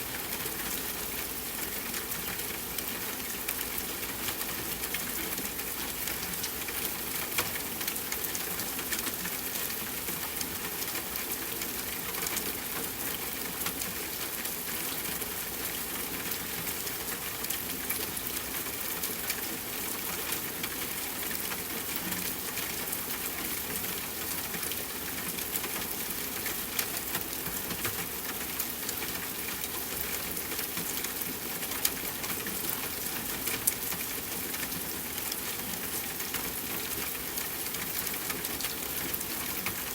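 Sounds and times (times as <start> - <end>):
soft steady rainfall: 0.0 - 39.9.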